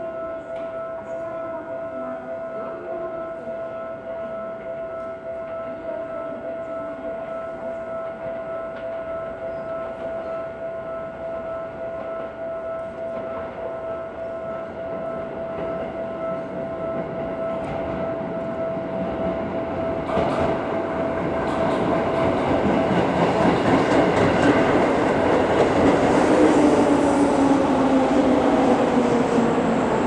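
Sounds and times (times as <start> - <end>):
electric train rumble and wheel clicks: 3.4 - 30.0.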